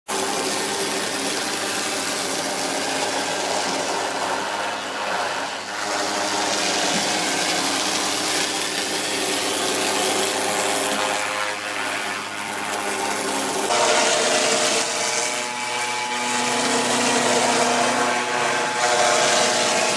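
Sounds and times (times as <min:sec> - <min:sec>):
router spindle whine: 0:00.1 - 0:19.9.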